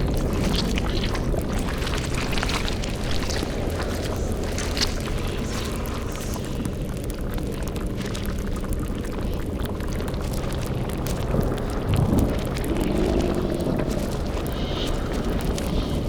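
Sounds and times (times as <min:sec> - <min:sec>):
bubbling cauldron: 0:00.0 - 0:16.0
fire crackling: 0:00.0 - 0:16.0
steady low rumble: 0:00.0 - 0:16.0.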